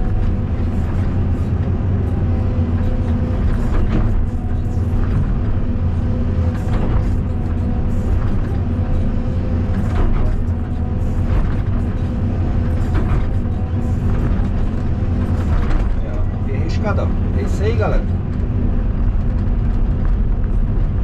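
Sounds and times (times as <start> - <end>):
excavator diesel engine droning: 0.0 - 21.0.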